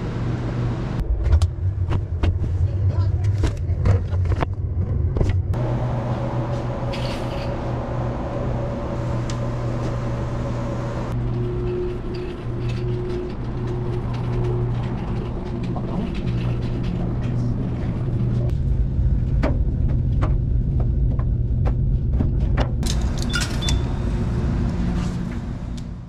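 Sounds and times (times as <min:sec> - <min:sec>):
washers and dryers humming: 0:00.0 - 0:01.1, 0:05.4 - 0:26.0.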